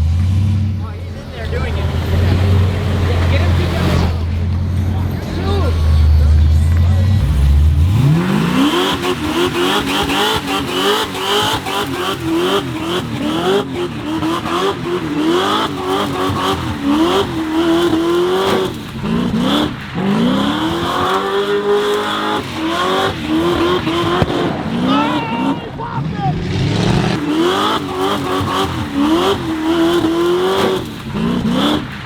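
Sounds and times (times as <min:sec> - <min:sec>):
tires squealing on pavement: 0:00.0 - 0:32.0
truck engine revving hard: 0:00.0 - 0:32.0.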